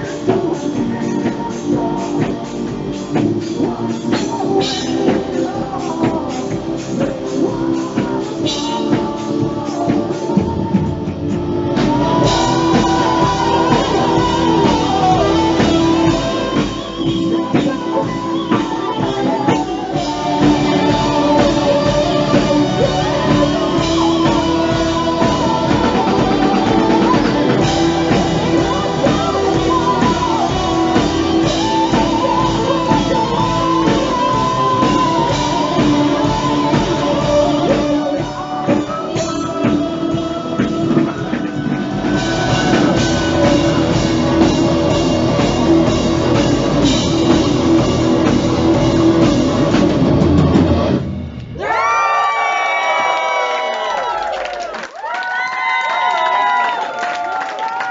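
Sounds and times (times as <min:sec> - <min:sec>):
male lead singer: 0:00.0 - 0:51.0
hard rock band playing live: 0:00.0 - 0:51.6.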